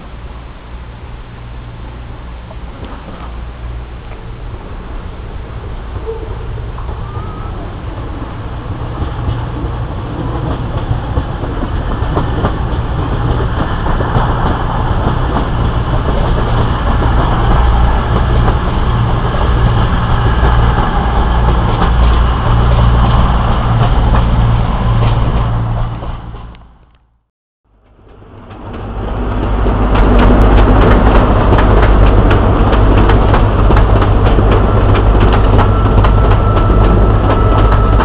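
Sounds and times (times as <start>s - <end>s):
wheel-on-rail noise: 0.0s - 38.0s.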